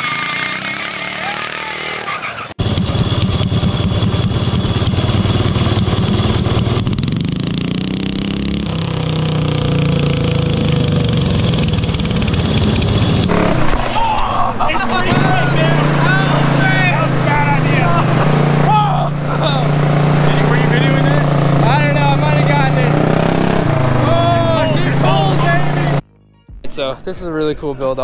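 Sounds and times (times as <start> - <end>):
mini bike engine revving: 0.0 - 26.0.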